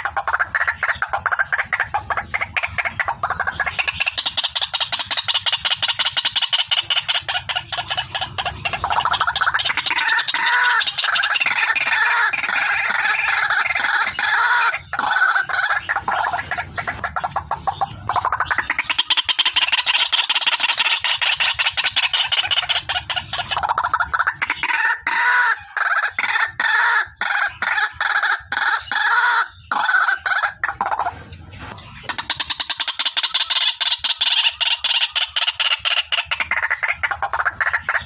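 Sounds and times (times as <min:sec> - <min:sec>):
waterhen rapid clucking calls: 0:00.0 - 0:38.0.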